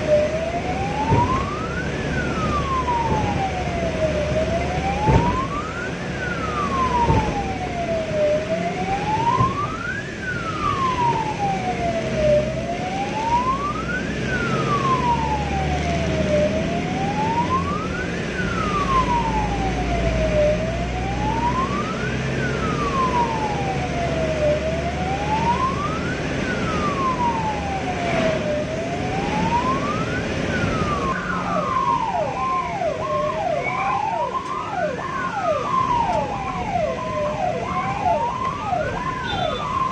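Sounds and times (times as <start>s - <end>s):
ambulance siren wailing: 0.0s - 39.9s
vehicle engine and road noise: 0.0s - 39.9s.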